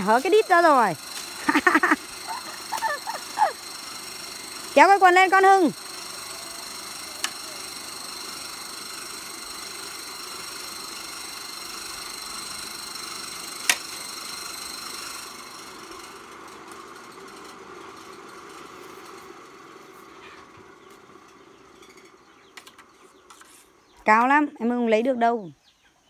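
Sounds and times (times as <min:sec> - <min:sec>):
motor running with high whine: 0:00.0 - 0:24.9.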